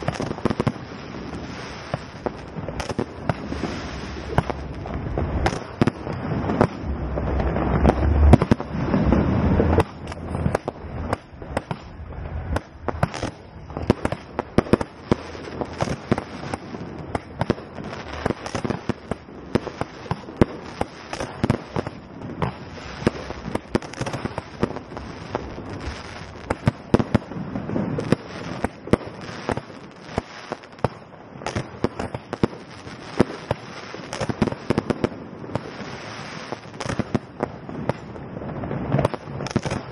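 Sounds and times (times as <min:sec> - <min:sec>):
fireworks booming: 0:00.0 - 0:39.9
fireworks cracking and crackling: 0:00.0 - 0:39.9.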